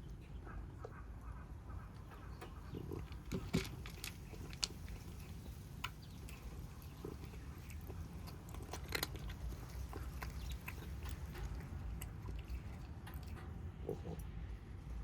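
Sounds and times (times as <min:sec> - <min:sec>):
kittens chewing food: 0:00.0 - 0:15.0.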